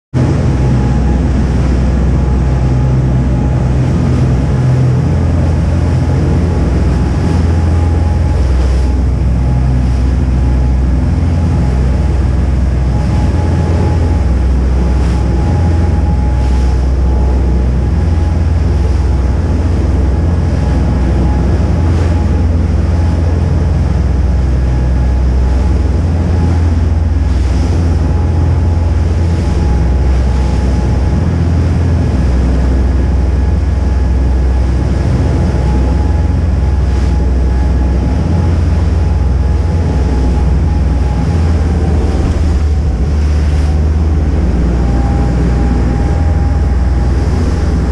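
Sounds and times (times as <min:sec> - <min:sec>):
boat engines droning: 0:00.1 - 0:47.9
churning wake rushing: 0:00.1 - 0:47.9
wind buffeting microphone: 0:00.1 - 0:47.9
faint steady whine: 0:00.2 - 0:47.9.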